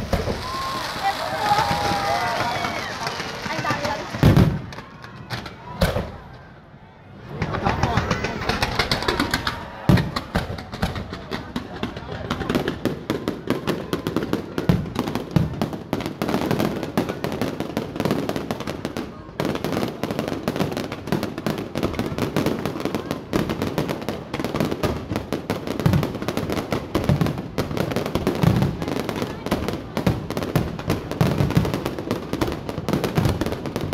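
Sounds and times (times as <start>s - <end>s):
fireworks crackling and popping: 0.0s - 6.4s, 7.3s - 33.9s.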